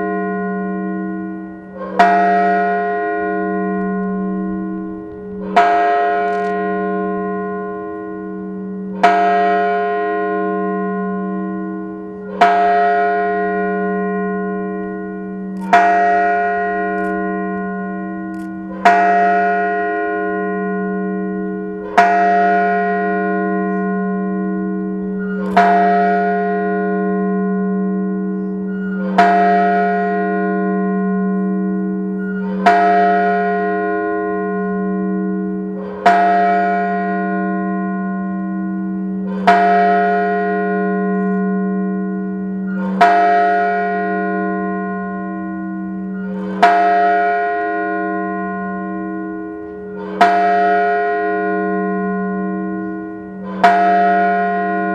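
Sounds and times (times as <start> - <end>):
bell tolling slowly: 0.0 - 54.9.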